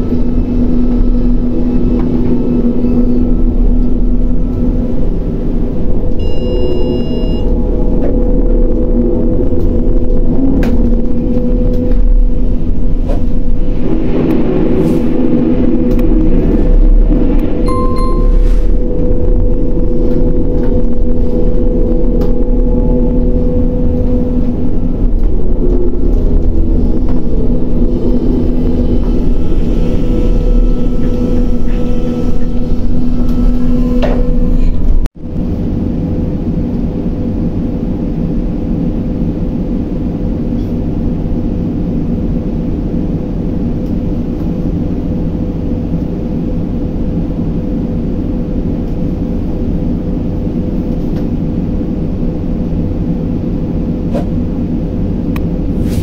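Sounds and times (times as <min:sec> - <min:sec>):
crane machinery droning: 0:00.0 - 0:56.0
steady hum: 0:00.0 - 0:56.0.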